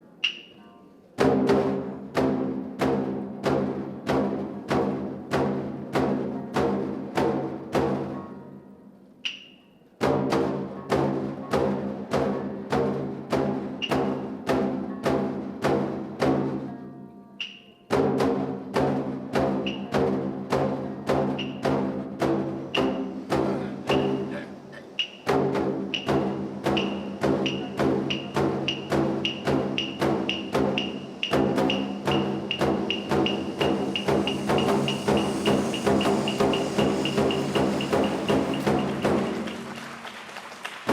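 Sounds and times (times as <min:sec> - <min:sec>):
plucked shamisen notes: 0:00.1 - 0:39.5.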